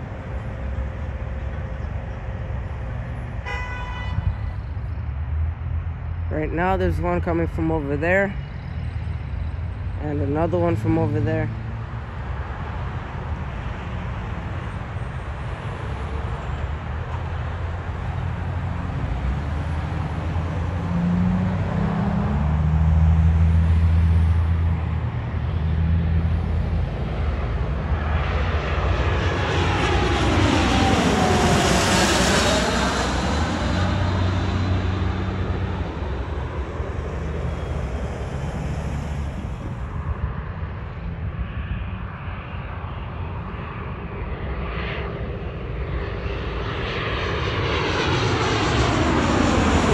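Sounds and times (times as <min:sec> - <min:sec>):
jet passing overhead: 0:00.0 - 0:49.9.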